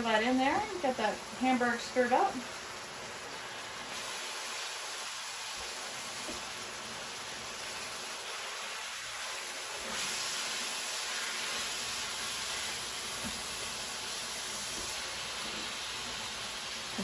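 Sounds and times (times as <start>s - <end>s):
meat sizzling in a skillet: 0.0s - 17.0s.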